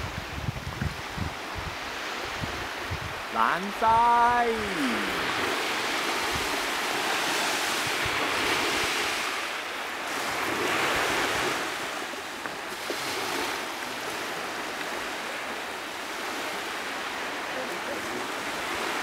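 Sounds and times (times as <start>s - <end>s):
small waves washing onto sand: 0.0s - 19.0s.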